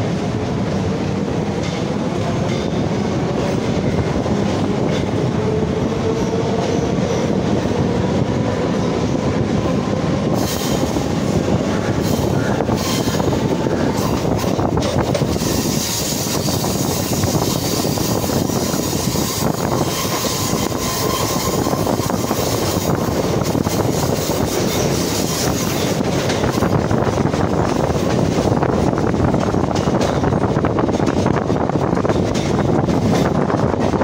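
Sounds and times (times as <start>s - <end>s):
rushing air: 0.0s - 34.0s
train wheels on rails: 0.0s - 34.0s.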